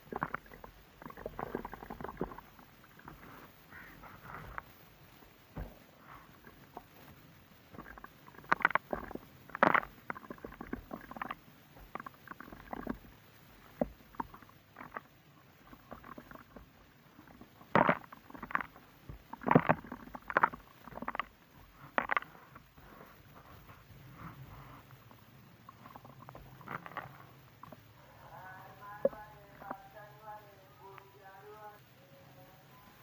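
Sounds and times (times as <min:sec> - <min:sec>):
crumbly material crunching: 0:00.0 - 0:31.3.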